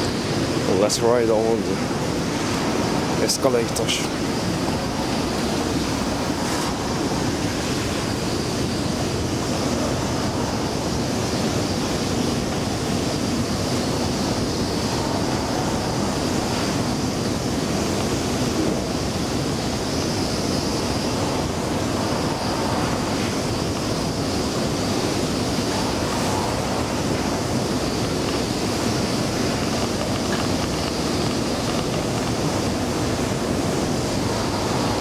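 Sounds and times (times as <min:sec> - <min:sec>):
faint high whine: 0:00.0 - 0:35.0.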